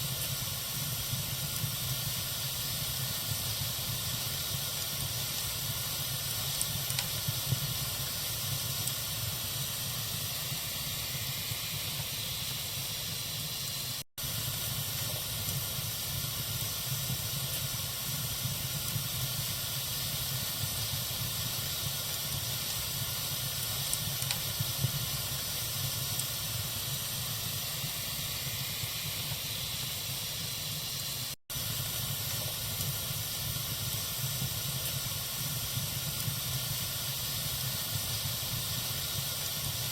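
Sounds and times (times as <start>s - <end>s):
campfire hissing: 0.0s - 39.9s
faint fire crackles: 0.0s - 39.9s.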